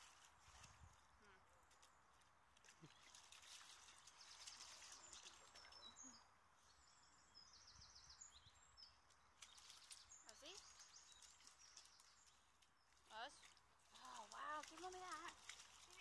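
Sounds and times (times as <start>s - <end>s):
small bird chirping and trilling: 2.8s - 16.0s.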